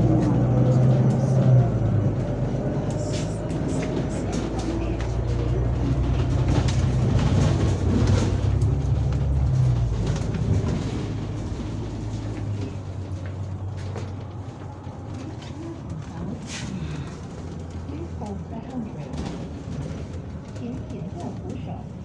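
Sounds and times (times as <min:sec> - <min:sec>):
bus diesel engine drone: 0:00.0 - 0:22.0
rattles and clicks from bus body: 0:00.0 - 0:22.0.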